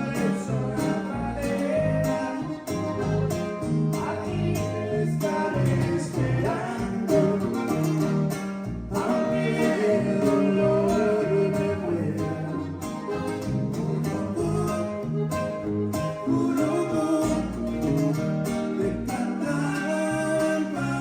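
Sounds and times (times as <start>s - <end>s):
latin song with acoustic guitars: 0.0s - 21.0s.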